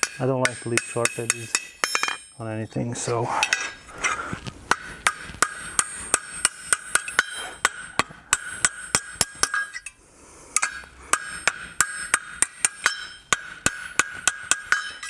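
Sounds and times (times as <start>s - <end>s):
hammer striking steel on anvil: 0.0s - 2.4s, 4.7s - 10.0s, 10.6s - 15.0s.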